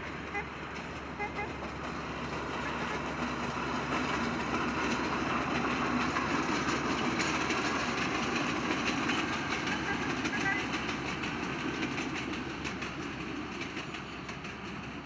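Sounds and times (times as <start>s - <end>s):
diesel train passing: 0.0s - 15.0s
wheels clicking over rail joints: 0.0s - 15.0s.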